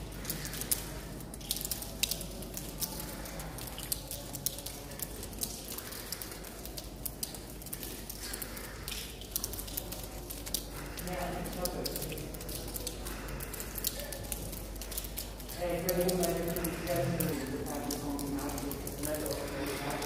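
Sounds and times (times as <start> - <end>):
water dripping into buckets: 0.0 - 20.0.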